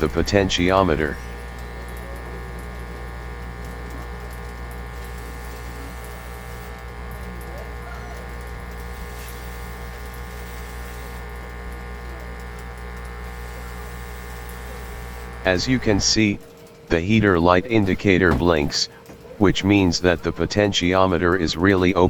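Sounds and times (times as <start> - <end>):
hot air station humming: 0.0 - 22.0.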